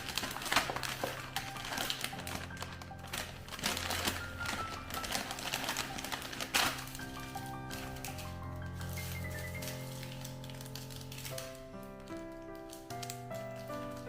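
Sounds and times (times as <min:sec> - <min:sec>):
background music with steady tones: 0:00.0 - 0:14.0.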